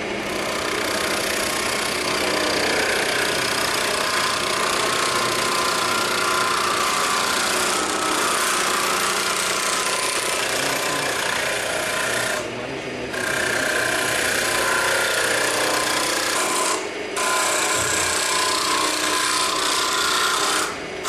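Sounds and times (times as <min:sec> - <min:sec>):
lathe chisel scraping wood: 0:00.0 - 0:20.8.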